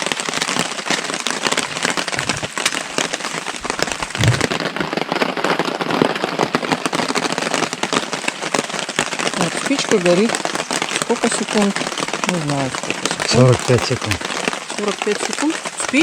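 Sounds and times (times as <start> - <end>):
heavy rain on a tarp: 0.0 - 16.0.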